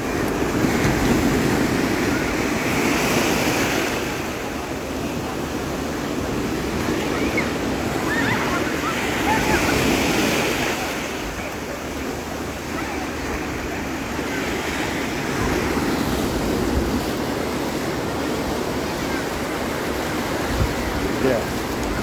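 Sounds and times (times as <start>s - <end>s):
sea waves washing onto shore: 0.0s - 22.0s.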